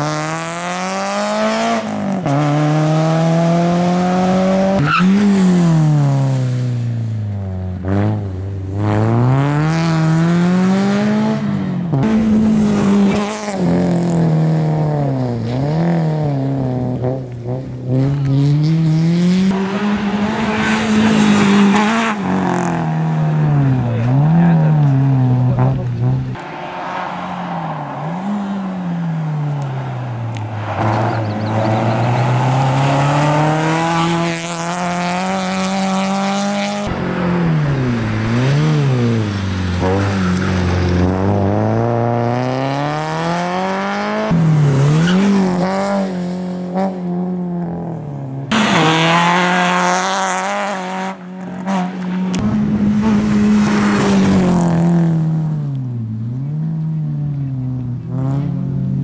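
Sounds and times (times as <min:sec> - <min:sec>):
car engine revving hard: 0:00.0 - 0:06.6, 0:07.8 - 0:47.1, 0:48.5 - 0:55.5.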